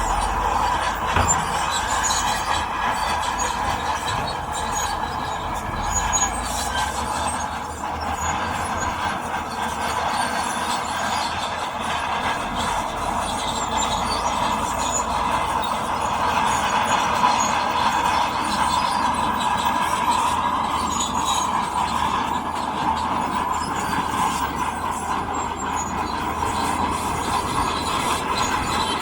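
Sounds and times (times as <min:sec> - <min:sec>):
diesel engine under load: 0:00.0 - 0:29.0
steel tracks squealing and clattering: 0:00.0 - 0:29.0.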